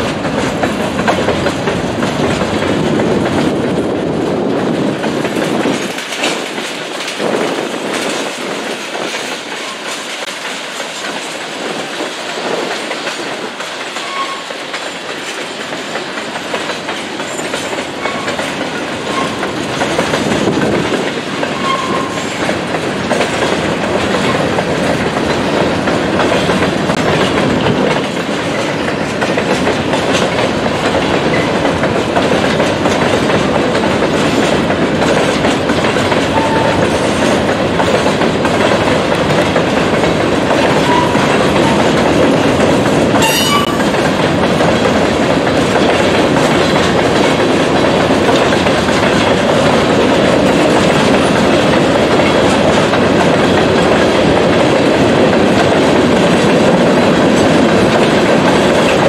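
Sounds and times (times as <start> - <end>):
train wheels clattering over track: 0.0 - 59.0.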